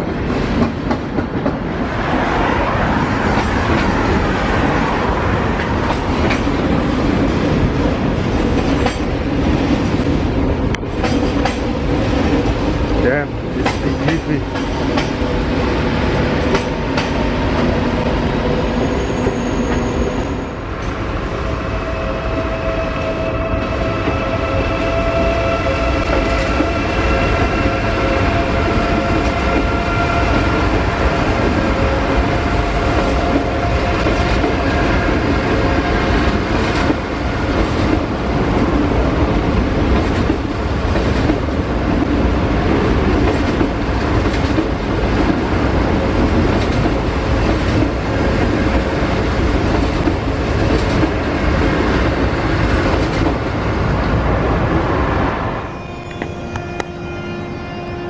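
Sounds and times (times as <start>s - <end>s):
train wheels rumbling: 0.0s - 57.0s
train traction whine: 0.0s - 58.0s.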